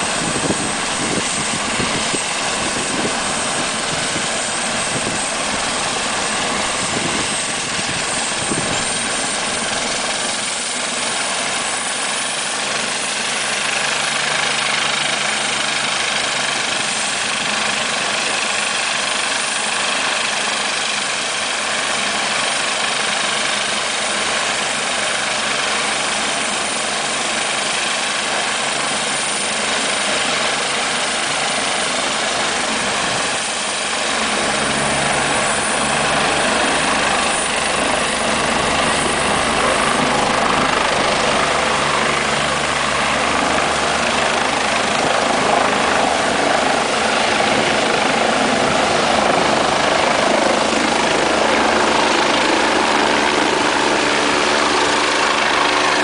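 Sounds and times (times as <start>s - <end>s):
helicopter rotor beating: 0.0s - 56.0s
helicopter turbine whine: 0.0s - 56.0s.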